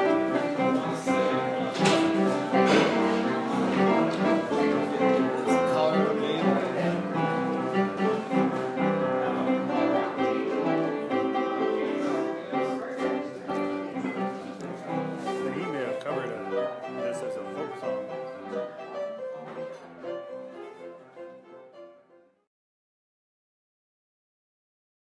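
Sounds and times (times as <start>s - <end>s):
plucked guitar music: 0.0s - 21.6s.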